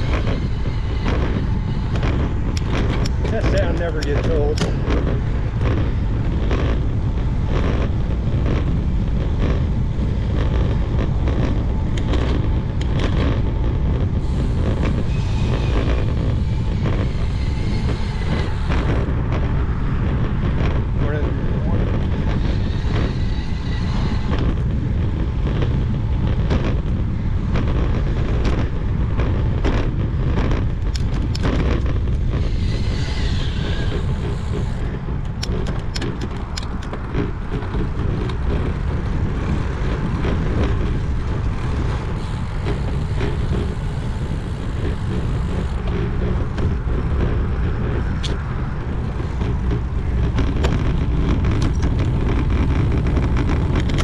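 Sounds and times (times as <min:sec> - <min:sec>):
bike tyres rolling on pavement: 0:00.0 - 0:54.0
wind rumbling on microphone: 0:00.0 - 0:54.0.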